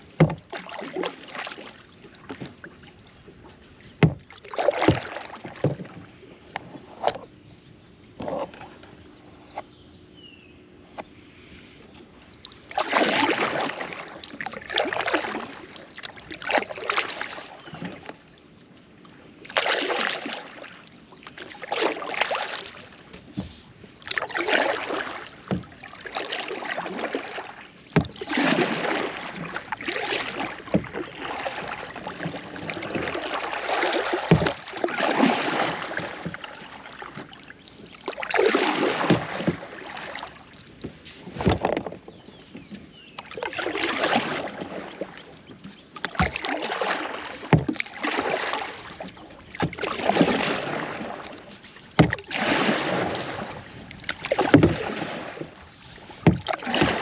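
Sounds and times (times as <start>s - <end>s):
kayak paddle strokes in water: 0.0s - 9.8s, 10.9s - 57.0s.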